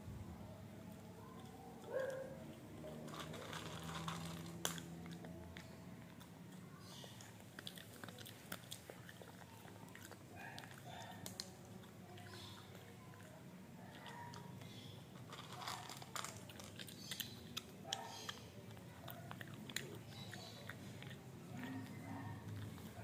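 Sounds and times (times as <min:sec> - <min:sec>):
dog chewing and crunching food: 0:00.8 - 0:23.0.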